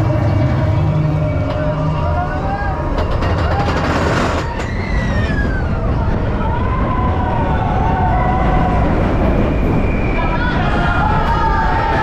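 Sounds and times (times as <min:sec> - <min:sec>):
roller coaster rushing on track: 0:00.0 - 0:12.0.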